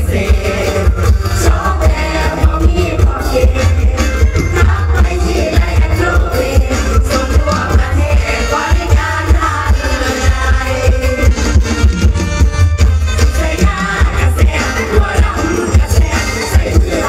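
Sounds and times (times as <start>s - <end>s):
person singing: 0.0s - 11.4s, 13.2s - 17.0s
band music over heavy bass beat: 0.0s - 17.0s.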